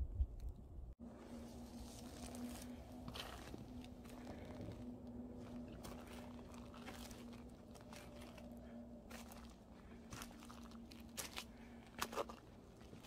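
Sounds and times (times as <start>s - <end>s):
footsteps crunching on dry leaves: 1.2s - 4.8s, 5.4s - 13.0s.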